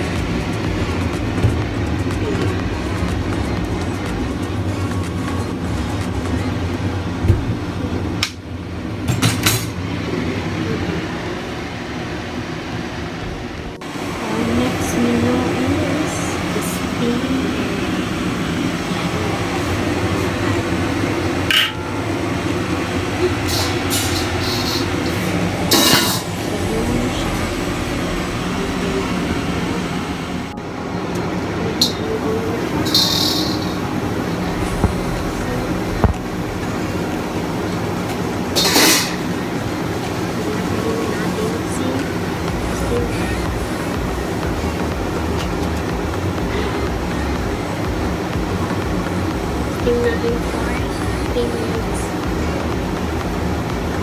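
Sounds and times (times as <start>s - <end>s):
low rumbling hum: 0.0s - 54.0s.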